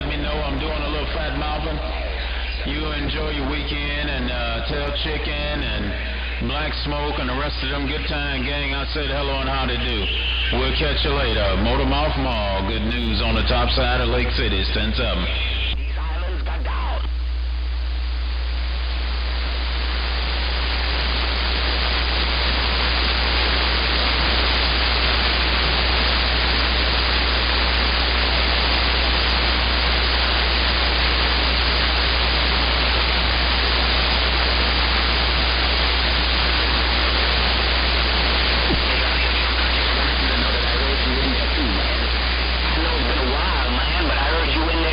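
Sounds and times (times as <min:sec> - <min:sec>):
low hum: 0:00.0 - 0:44.9
radio static hiss: 0:00.0 - 0:44.9.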